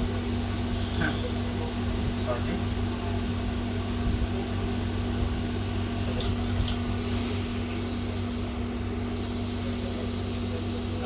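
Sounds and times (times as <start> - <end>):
machine hum: 0.0 - 11.0
whirring fan hiss: 0.0 - 11.0.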